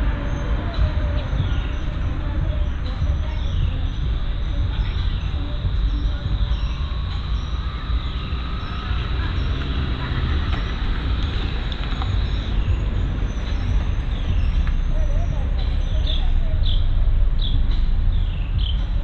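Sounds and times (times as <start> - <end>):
birds chirping: 0.0 - 19.0
steady low rumble: 0.0 - 19.0.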